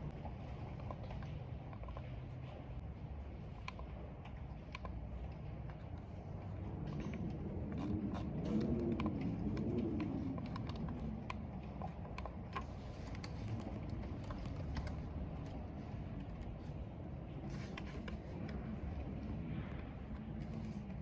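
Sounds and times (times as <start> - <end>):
wind and rain rumble: 0.0 - 21.0.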